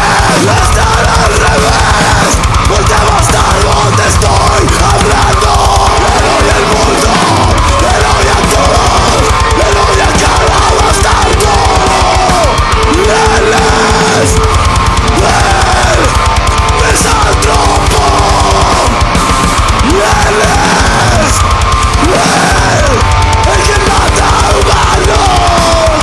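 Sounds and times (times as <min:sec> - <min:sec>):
heavy metal music: 0:00.0 - 0:26.0
rapid kick drum: 0:00.0 - 0:26.0.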